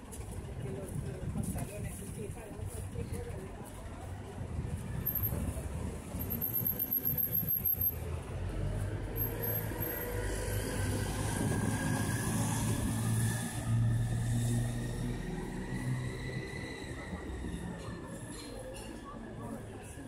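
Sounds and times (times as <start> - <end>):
motor vehicle running: 0.0 - 20.0.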